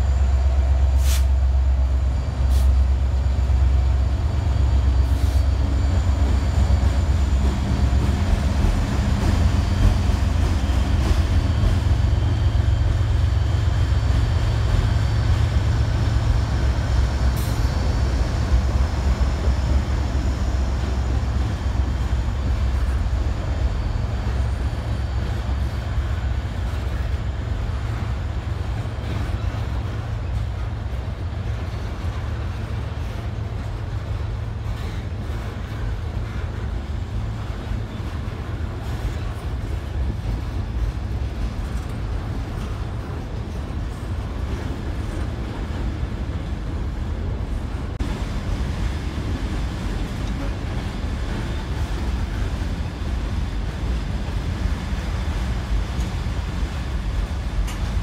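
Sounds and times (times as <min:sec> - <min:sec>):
diesel locomotives rumbling: 0:00.0 - 0:58.0
freight cars clattering over bridge: 0:05.6 - 0:58.0.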